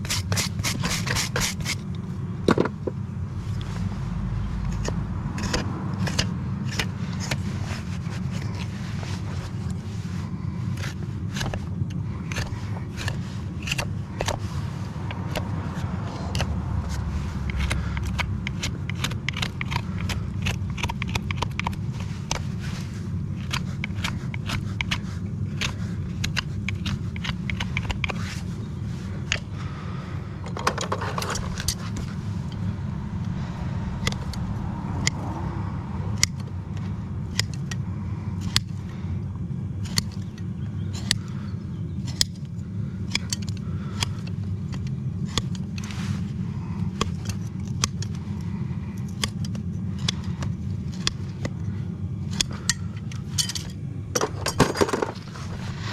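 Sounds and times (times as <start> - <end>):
tools scraping horse hoof: 0.0 - 3.9, 4.6 - 29.7, 30.4 - 35.2, 36.1 - 39.0, 39.8 - 55.9
steady low hum: 0.0 - 55.9.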